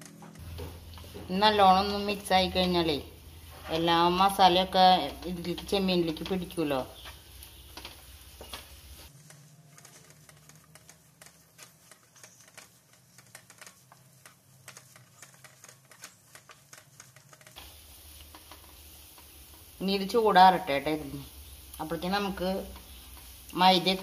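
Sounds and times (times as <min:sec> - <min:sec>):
utensil scraping a pan: 0:00.4 - 0:19.8.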